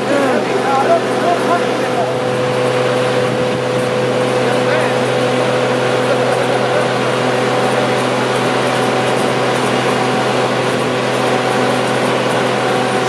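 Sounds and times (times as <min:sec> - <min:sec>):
travel lift machine hum: 0:00.0 - 0:13.0.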